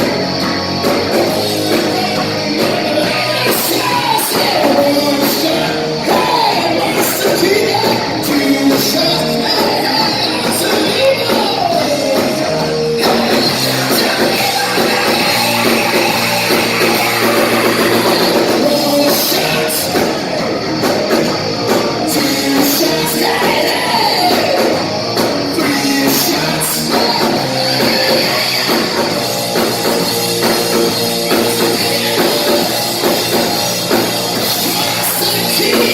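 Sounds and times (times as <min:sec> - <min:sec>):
live rock band playing: 0:00.0 - 0:35.9
person singing: 0:00.8 - 0:20.5, 0:21.7 - 0:35.9.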